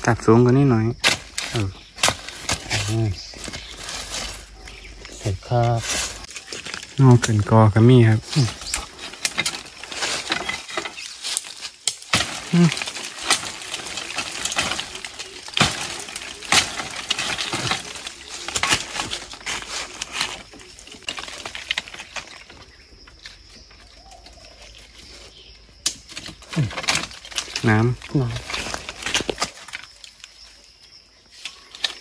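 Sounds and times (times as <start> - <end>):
rustling undergrowth: 0.0 - 32.0
twigs snapping: 1.0 - 32.0.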